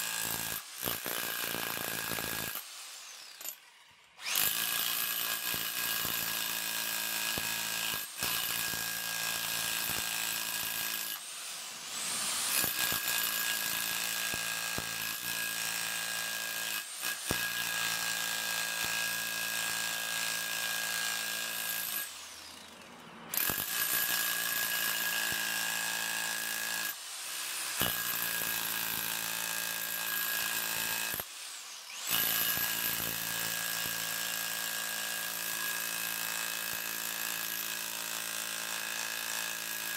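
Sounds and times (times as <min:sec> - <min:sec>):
rotary hammer chiselling stone: 0:00.0 - 0:02.6, 0:03.2 - 0:11.2, 0:12.1 - 0:22.7, 0:23.3 - 0:31.3, 0:31.9 - 0:39.9.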